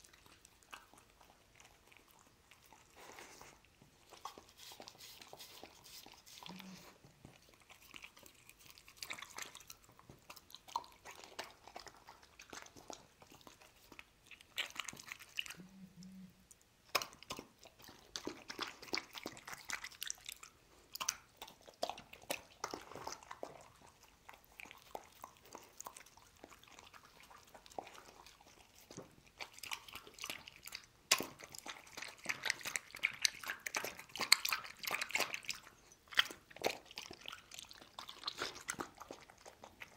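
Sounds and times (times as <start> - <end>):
dog lapping broth: 0.0 - 15.9, 16.8 - 39.9
dog chewing: 0.0 - 39.9.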